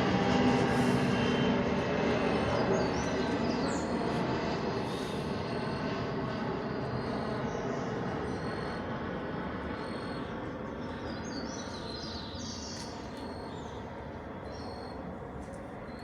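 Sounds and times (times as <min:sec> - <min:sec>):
airplane engine drone: 0:00.0 - 0:16.0.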